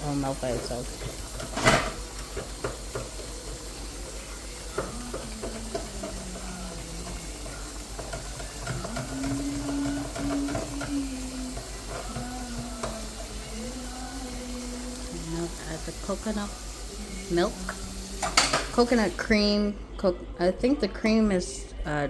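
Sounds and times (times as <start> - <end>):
stirring with light sizzle: 0.0 - 19.5
pot boiling: 0.0 - 19.7.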